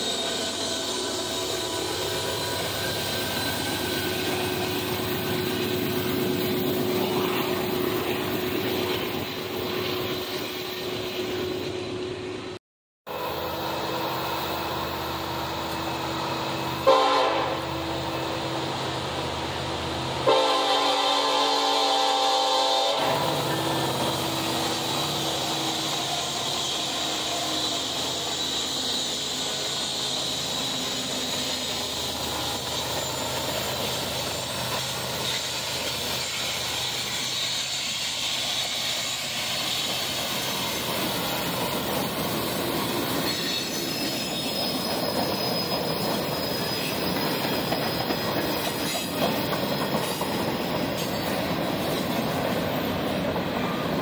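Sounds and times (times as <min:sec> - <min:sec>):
train wheels squealing: 0:00.0 - 0:12.4, 0:13.1 - 0:54.0
diesel locomotive passing: 0:00.0 - 0:54.0.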